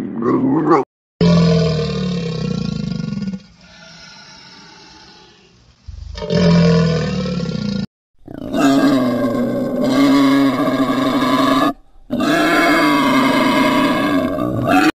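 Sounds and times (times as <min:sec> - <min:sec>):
long animal calls: 0:01.2 - 0:14.9.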